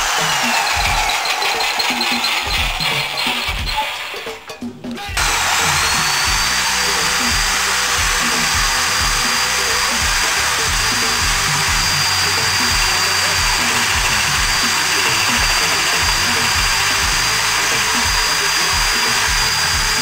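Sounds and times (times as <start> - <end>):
electric drill whining: 0.0 - 4.4, 5.2 - 20.0
background music: 0.0 - 20.0.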